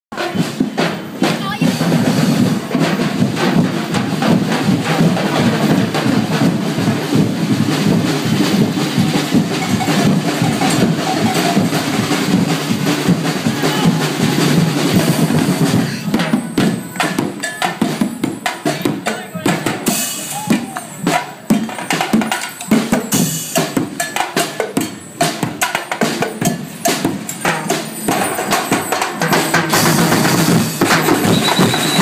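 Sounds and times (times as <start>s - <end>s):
drum band playing fast rhythm: 0.1s - 32.0s.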